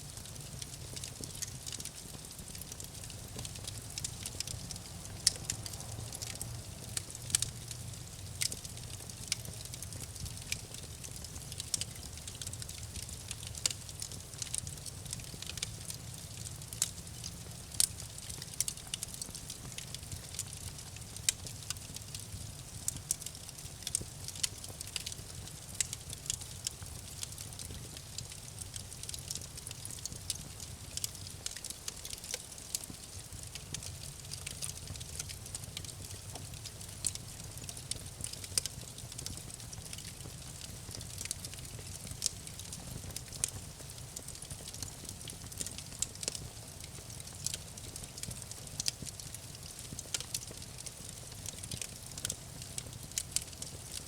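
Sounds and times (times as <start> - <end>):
low fire rumble: 0.0 - 54.0
campfire crackling and popping: 0.1 - 54.0.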